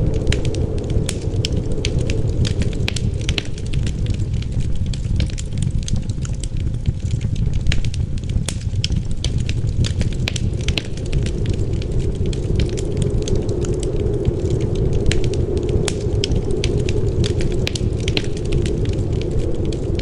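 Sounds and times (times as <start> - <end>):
low rush of wind: 0.0 - 20.0
wood fire crackling and popping: 0.0 - 20.0.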